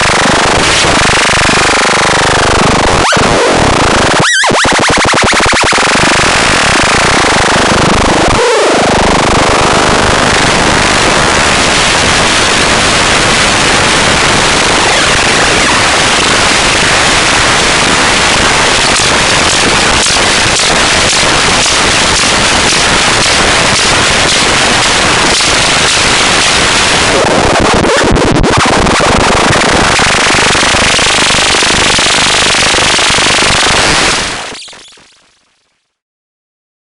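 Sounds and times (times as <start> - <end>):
harsh crackling buzz: 0.0 - 35.0.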